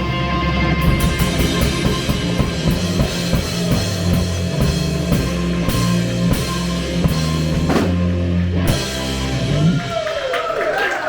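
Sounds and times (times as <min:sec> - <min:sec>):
rock band playing: 0:00.0 - 0:10.8.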